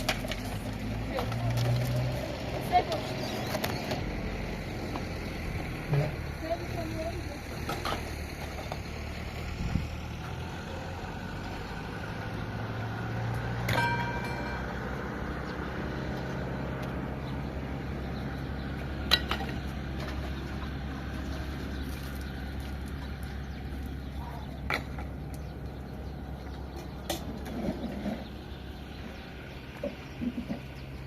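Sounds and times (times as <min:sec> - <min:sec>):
engine idling: 0:02.5 - 0:31.0.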